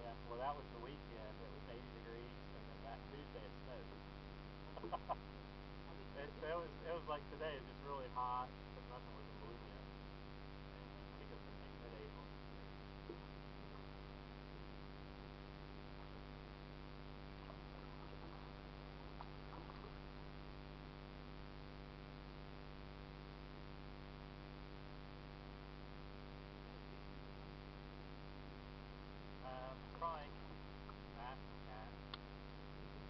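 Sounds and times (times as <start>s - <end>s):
electrical hum with hiss: 0.0s - 33.0s.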